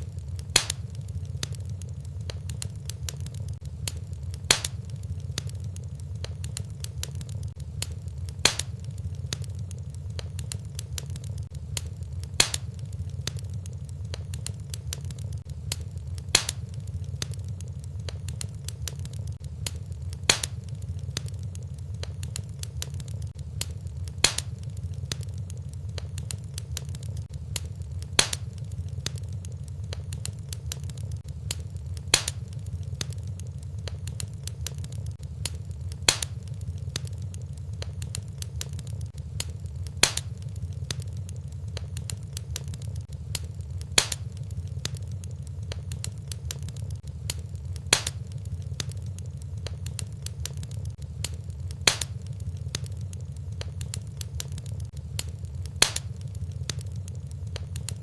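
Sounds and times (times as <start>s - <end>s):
low rumble: 0.0s - 58.0s
wood fire crackling: 0.0s - 58.0s
sharp pop of fire: 0.3s - 9.6s, 10.2s - 21.4s, 23.6s - 41.0s, 41.8s - 45.0s, 45.7s - 49.0s, 51.2s - 56.8s.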